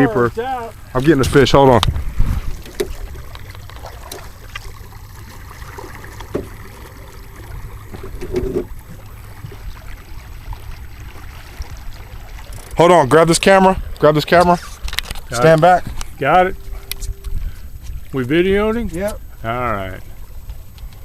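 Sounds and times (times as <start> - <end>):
low rumble of wind: 0.0 - 21.0
water lapping against hull: 0.0 - 21.0.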